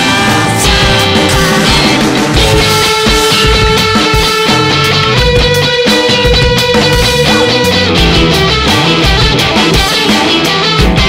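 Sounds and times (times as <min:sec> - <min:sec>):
electric guitar strummed: 0:00.0 - 0:11.0
rock music: 0:00.0 - 0:11.0.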